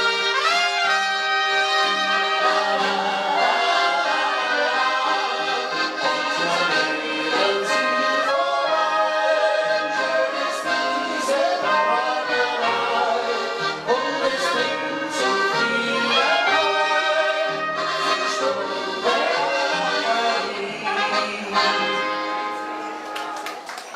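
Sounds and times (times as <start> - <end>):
live folk-pop band instrumental: 0.0 - 23.6.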